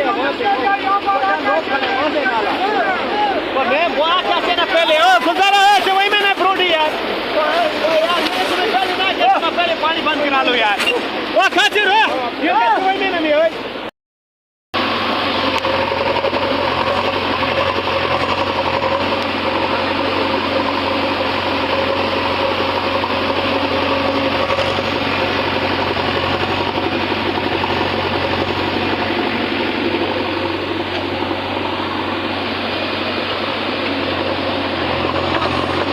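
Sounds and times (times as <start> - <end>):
steady engine drone: 0.0 - 13.9, 14.8 - 35.9.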